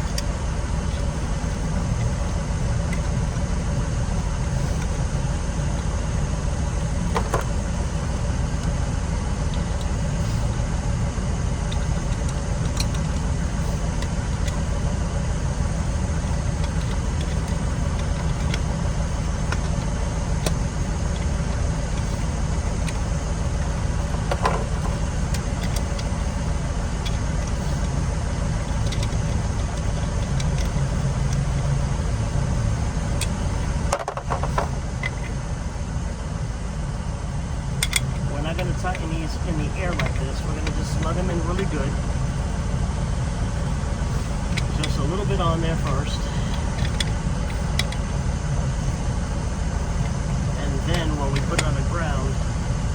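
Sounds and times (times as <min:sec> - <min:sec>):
low engine-like drone: 0:00.0 - 0:52.9.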